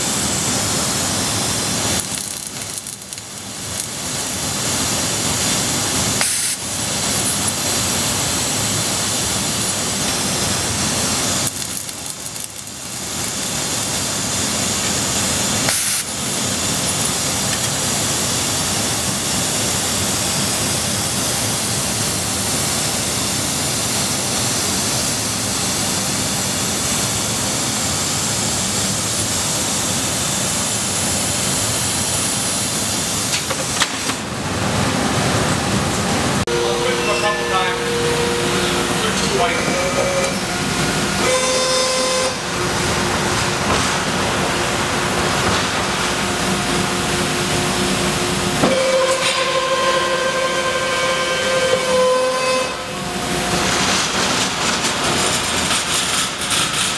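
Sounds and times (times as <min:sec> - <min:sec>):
laser cutter gas jet hissing: 0:00.0 - 0:34.4, 0:35.4 - 0:56.9.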